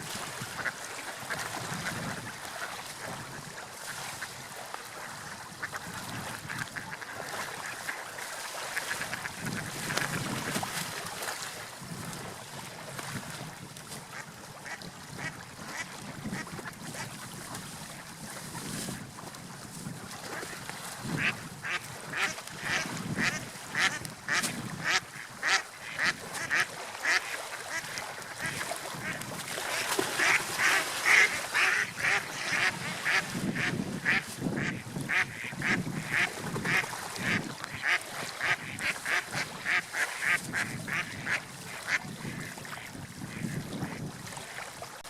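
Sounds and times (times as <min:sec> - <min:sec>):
rushing water: 0:00.0 - 0:45.0
wind: 0:00.0 - 0:45.0.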